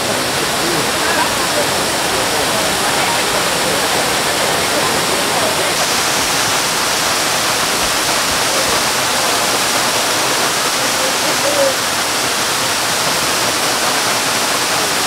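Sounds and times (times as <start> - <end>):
waterfall onto rocks: 0.0 - 15.0.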